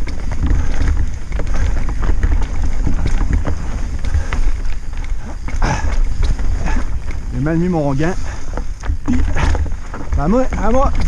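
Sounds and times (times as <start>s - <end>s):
bike knocks and rattles: 0.0s - 11.0s
wind buffeting microphone: 0.0s - 11.0s.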